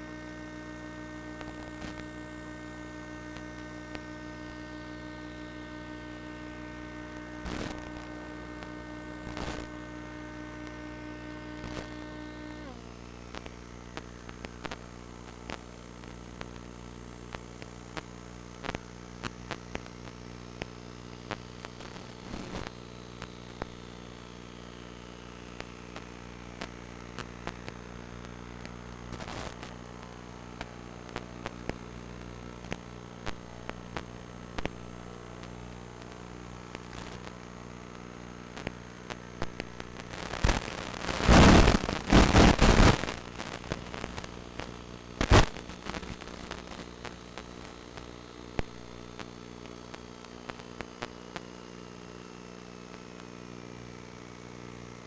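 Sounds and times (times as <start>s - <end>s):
layered electrical hum: 0.0s - 55.0s.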